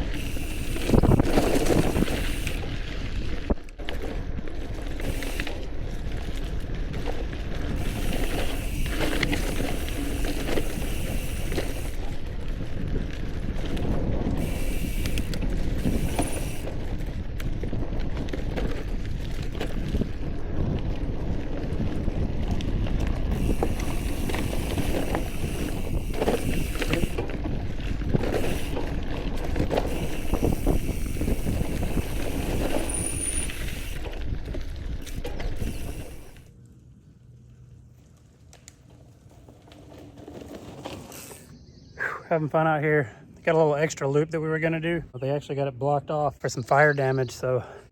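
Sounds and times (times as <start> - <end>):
bike rattles and clicks: 0.0 - 41.6
bike tyres rumbling on dirt trail: 0.0 - 46.0.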